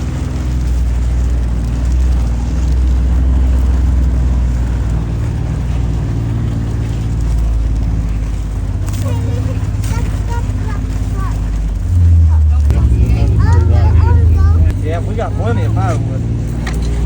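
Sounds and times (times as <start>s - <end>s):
vehicle engine on rough trail: 0.0s - 17.0s.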